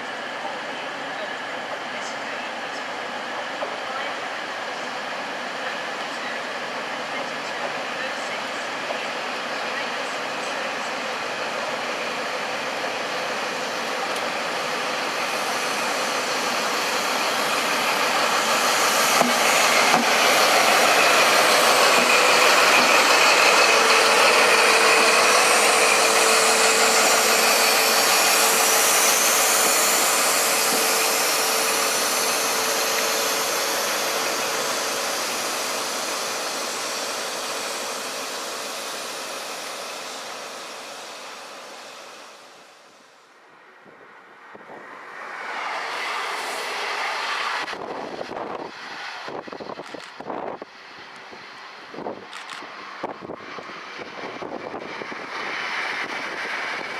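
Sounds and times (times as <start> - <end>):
diesel train passing: 0.0 - 56.9
steady whine: 0.0 - 56.9.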